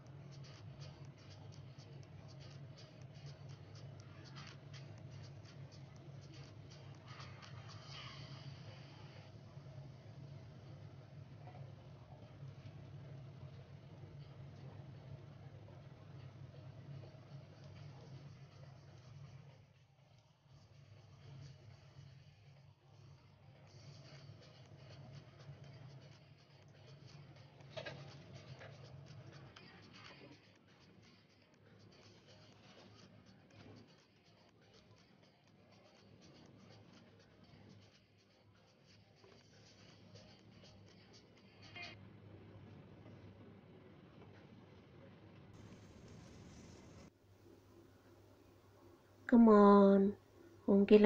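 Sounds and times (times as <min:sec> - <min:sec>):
low steady hum: 0:00.0 - 0:30.5, 0:39.0 - 0:51.0.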